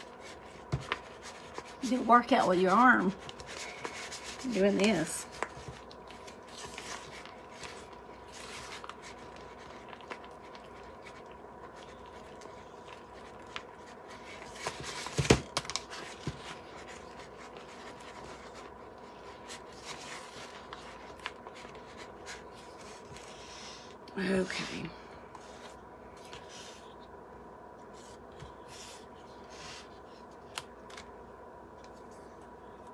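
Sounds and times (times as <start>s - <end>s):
faint high hum: 0.0s - 32.9s.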